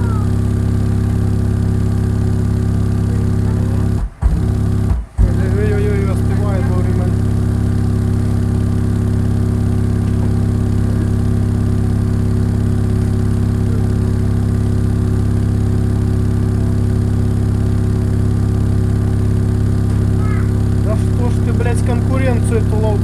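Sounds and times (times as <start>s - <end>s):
subwoofer playing buzzy bass tone: 0.0s - 23.0s.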